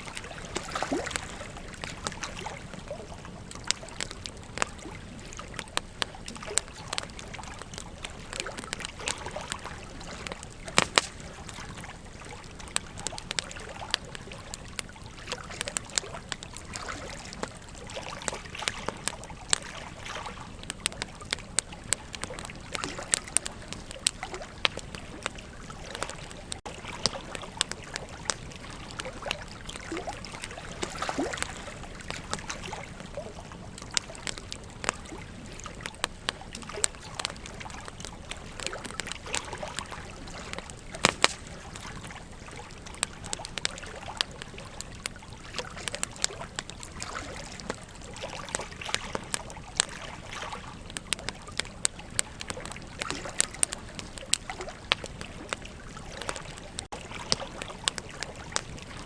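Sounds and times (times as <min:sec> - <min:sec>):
sharp pops and snaps: 0:00.0 - 0:59.0
wood fire crackling: 0:00.0 - 0:59.0.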